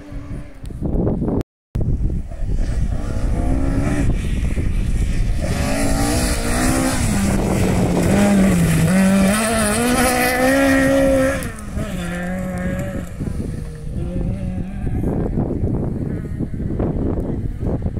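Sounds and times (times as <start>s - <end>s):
rally car engine revving: 2.3s - 16.8s.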